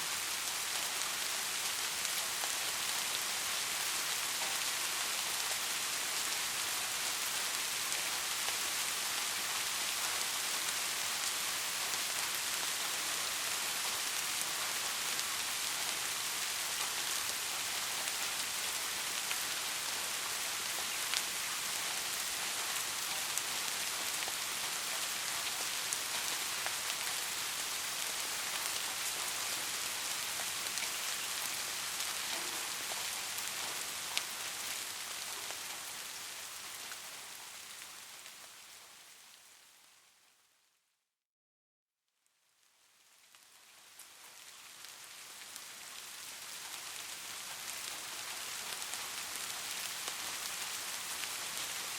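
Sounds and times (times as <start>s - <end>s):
rain falling: 0.0s - 40.3s, 43.0s - 51.9s.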